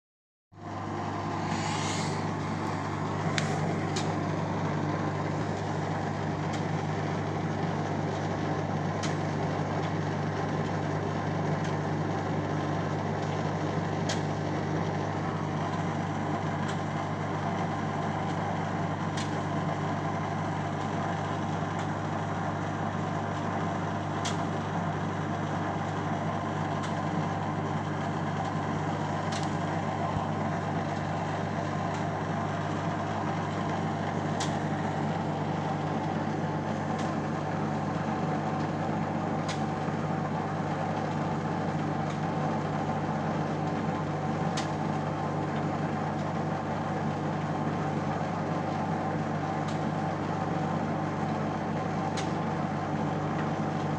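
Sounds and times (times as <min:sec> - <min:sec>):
washing machine motor hum: 0:00.6 - 0:53.9.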